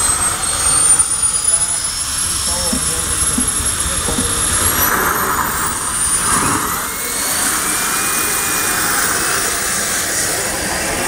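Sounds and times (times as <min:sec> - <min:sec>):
small engines whining: 0:00.0 - 0:11.0.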